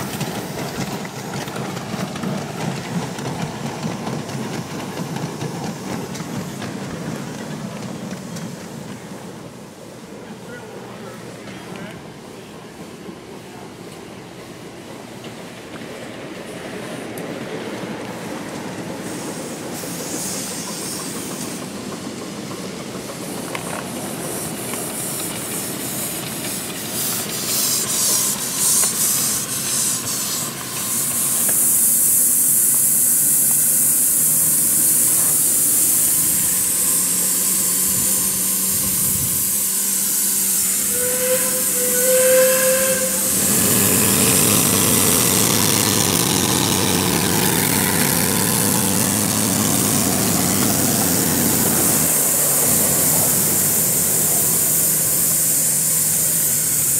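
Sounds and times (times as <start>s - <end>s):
steam hissing: 0.0s - 56.9s
steam locomotive working: 0.0s - 56.9s.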